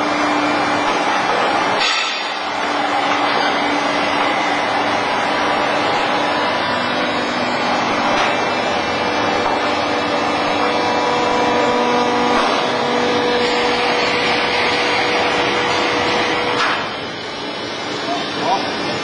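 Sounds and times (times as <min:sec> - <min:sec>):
hydraulic power unit running: 0:00.0 - 0:19.0
steady whine: 0:00.0 - 0:19.0.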